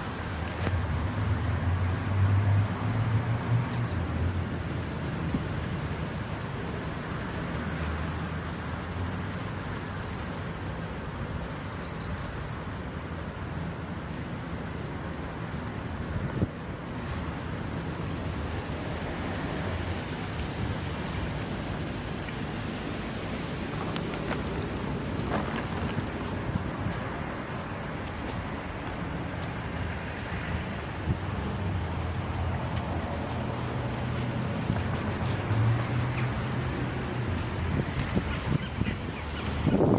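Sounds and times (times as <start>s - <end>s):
distant road traffic rumble: 0.0s - 39.9s.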